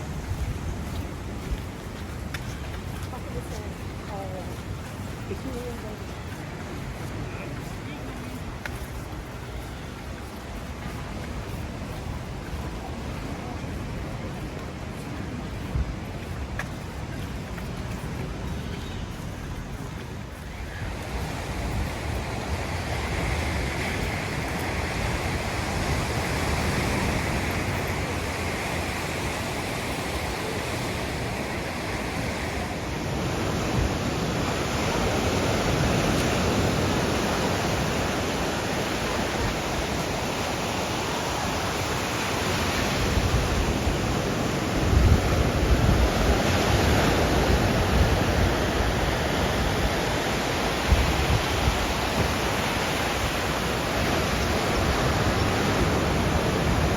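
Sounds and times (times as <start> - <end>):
wind buffeting microphone: 0.0 - 9.3, 10.1 - 56.9
sea surf washing onto beach: 0.0 - 56.9.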